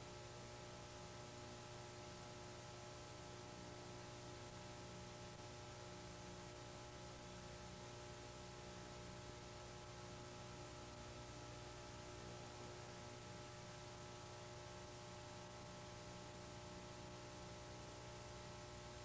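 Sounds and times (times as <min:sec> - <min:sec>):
faint steady tape hiss: 0:00.0 - 0:19.0
low electrical hum: 0:00.0 - 0:19.0.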